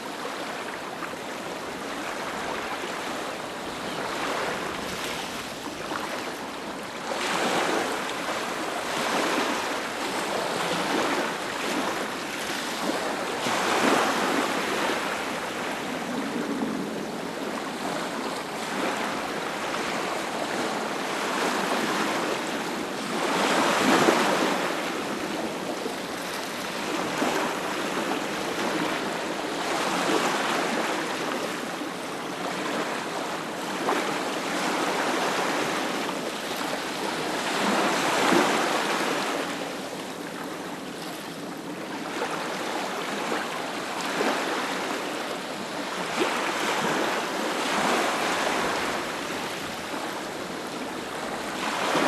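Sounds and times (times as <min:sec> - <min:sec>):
ocean waves breaking on beach: 0:00.0 - 0:52.0.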